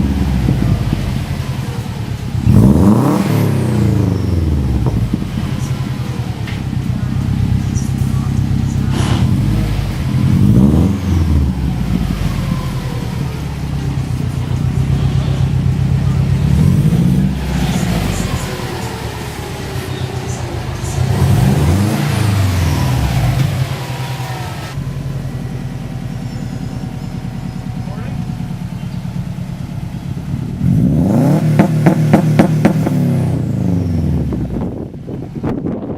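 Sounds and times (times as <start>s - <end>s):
car engine idling and revving: 0.0s - 35.9s
exhaust cracks: 0.0s - 35.9s.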